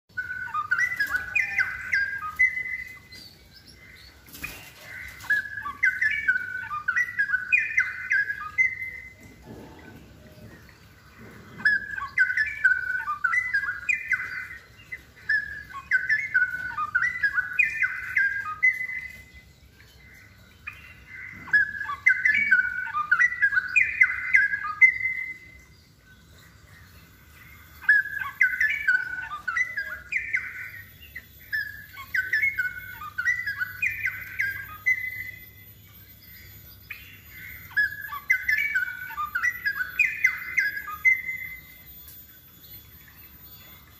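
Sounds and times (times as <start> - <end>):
bulbul singing: 0.1 - 43.9.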